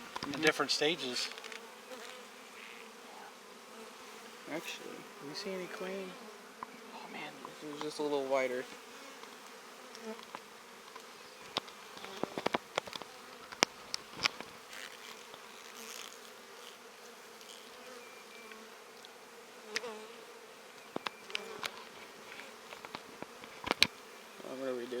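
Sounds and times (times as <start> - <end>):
bees buzzing: 0.0 - 25.0
single bees droning close by: 0.0 - 25.0.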